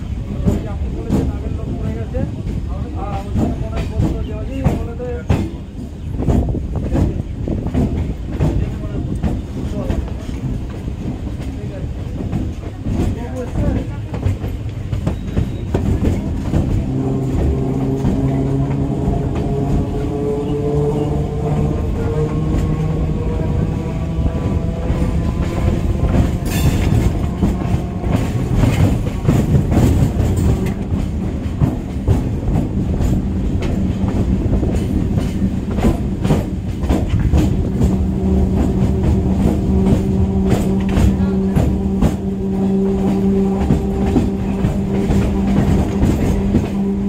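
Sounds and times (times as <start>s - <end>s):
train wheels clattering over rail joints: 0.0s - 47.0s.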